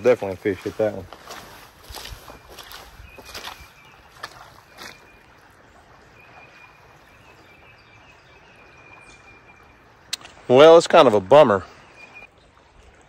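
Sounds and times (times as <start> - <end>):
creek flowing: 0.0 - 13.0.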